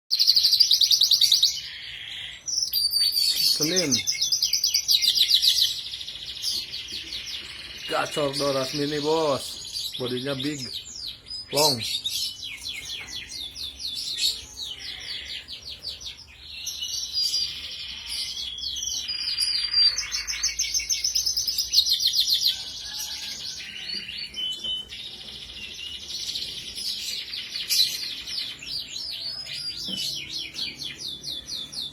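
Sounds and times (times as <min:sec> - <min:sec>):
canary singing trills: 0:00.1 - 0:31.9.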